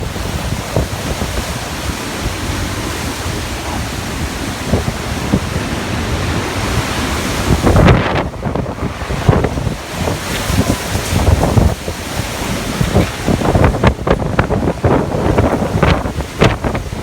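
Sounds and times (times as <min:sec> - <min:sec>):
strong wind gusts: 0:00.0 - 0:17.0
wind buffeting microphone: 0:00.0 - 0:17.0.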